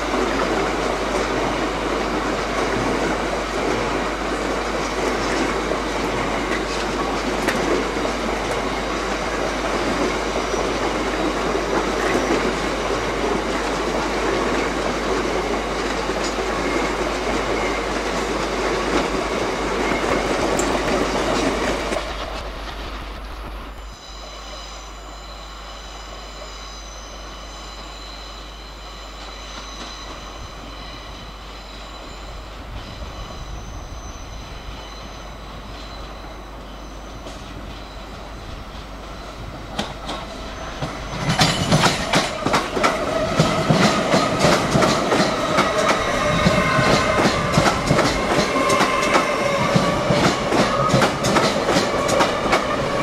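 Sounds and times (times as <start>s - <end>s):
train wheels clattering on rails: 0.0s - 24.0s, 32.0s - 53.0s.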